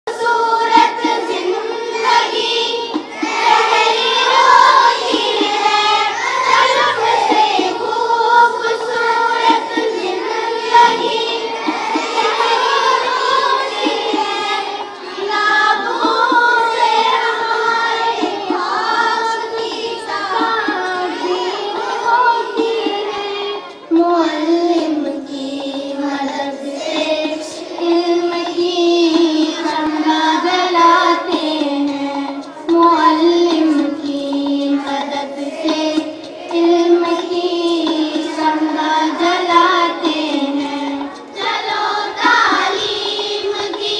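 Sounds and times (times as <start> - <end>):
children singing in unison: 0.1 - 43.9.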